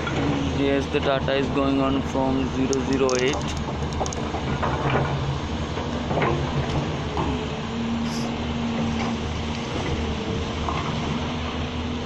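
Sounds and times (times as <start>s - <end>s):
excavator diesel engines running: 0.0s - 12.0s.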